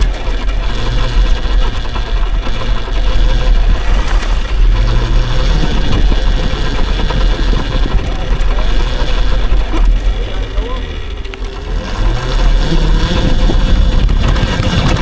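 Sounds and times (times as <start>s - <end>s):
tyres rumbling on dirt road: 0.0s - 15.0s
wind buffeting microphone: 0.0s - 15.0s.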